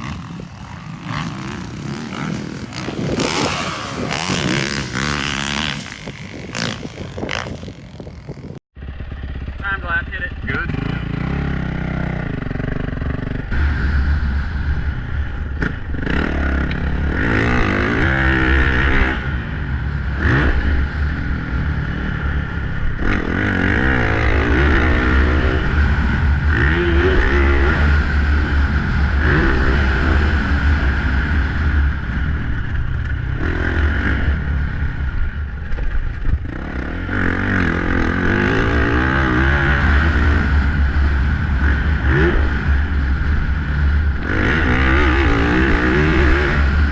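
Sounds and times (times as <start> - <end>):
dirt bike engine revving: 0.0 - 9.8, 10.4 - 35.4, 36.2 - 46.9.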